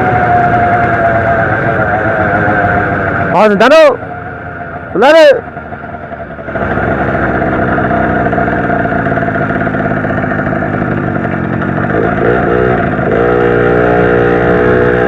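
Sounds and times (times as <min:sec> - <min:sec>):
two-stroke moped engine running: 0:00.0 - 0:15.0.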